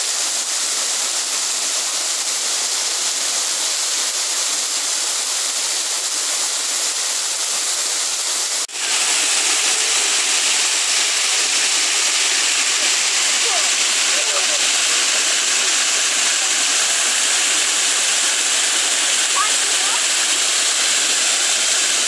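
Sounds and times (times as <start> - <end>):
waterfall rushing onto rocks: 0.0 - 22.0.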